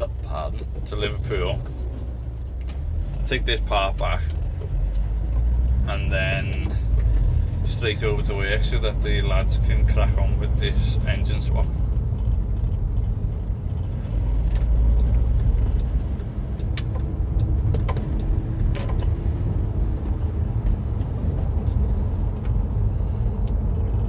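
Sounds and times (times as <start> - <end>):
engine and road noise rumble: 0.0 - 24.0.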